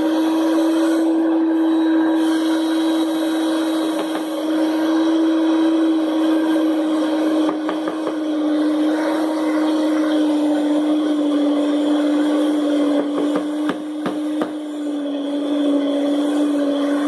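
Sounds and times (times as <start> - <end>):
stand mixer motor humming: 0.0 - 17.0.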